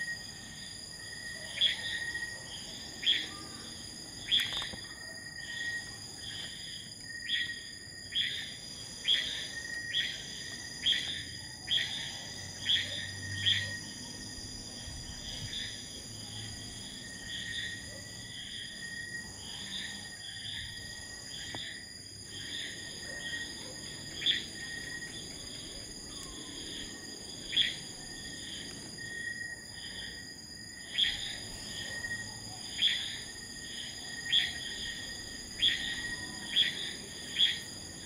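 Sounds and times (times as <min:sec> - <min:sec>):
insects trilling: 0:00.0 - 0:38.0
sharp insect chirps: 0:00.0 - 0:38.0.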